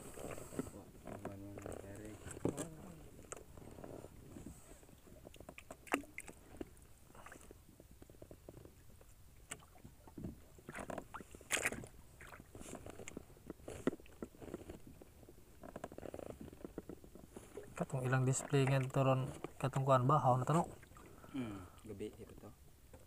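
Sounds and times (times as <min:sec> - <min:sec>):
light knocks and clicks on boat: 0:00.1 - 0:21.0.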